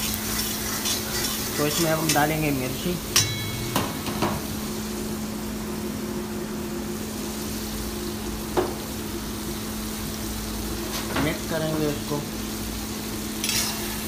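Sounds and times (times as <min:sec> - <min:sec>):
gravy sizzling in a wok: 0:00.0 - 0:14.0
kitchen hum: 0:00.0 - 0:14.0.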